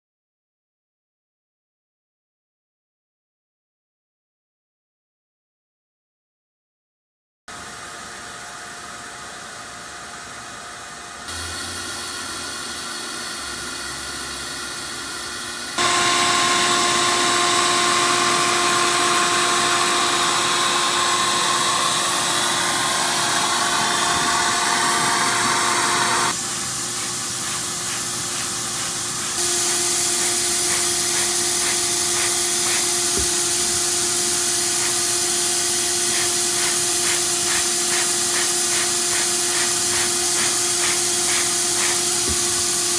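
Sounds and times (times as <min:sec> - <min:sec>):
vacuum cleaner running: 0:07.5 - 0:42.9.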